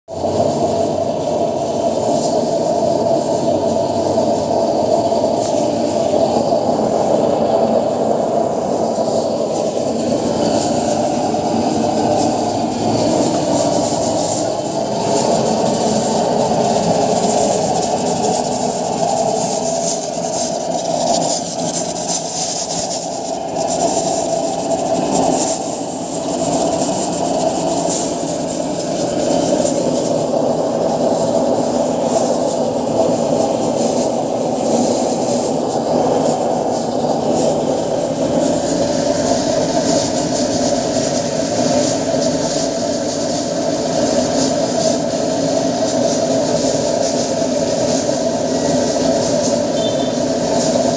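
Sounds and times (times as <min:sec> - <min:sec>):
oil burner flame rushing: 0:00.1 - 0:50.9.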